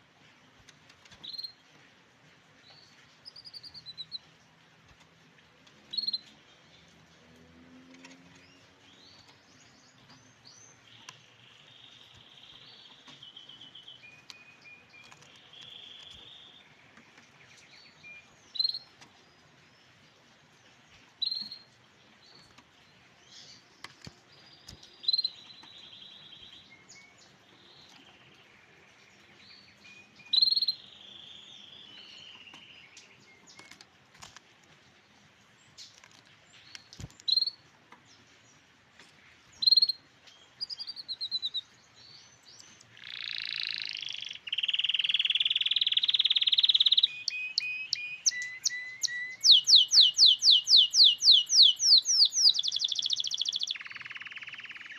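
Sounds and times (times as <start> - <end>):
canary singing trills: 1.1 - 1.7, 2.6 - 4.4, 5.7 - 7.0, 8.0 - 20.0, 21.2 - 33.8, 36.6 - 38.2, 39.5 - 54.9.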